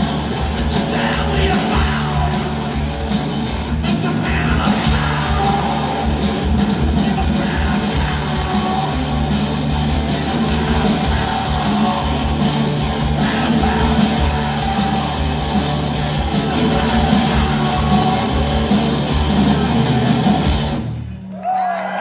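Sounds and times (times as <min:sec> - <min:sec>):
live rock band: 0:00.0 - 0:21.2.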